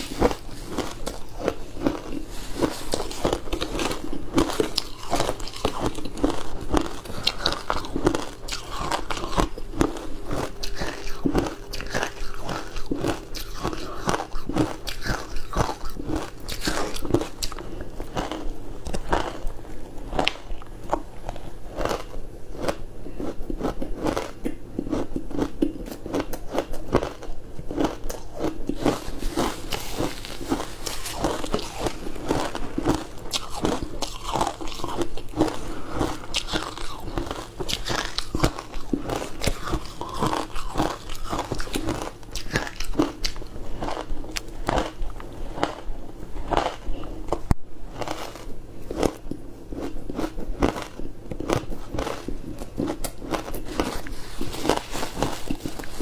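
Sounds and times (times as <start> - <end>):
crunchy chewing of frozen food: 0.0 - 56.0.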